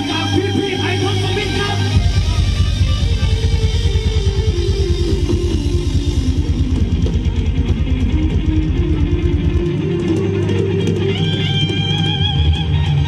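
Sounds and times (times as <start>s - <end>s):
live band dance music: 0.0s - 13.0s
wavering lead guitar note: 0.0s - 13.0s.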